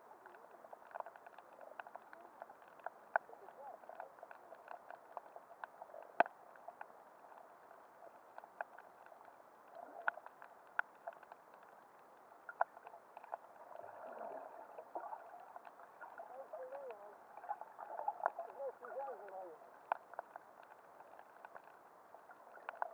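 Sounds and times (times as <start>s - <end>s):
muffled underwater hiss: 0.0s - 22.9s
sharp underwater clicks and crackles: 0.0s - 22.9s.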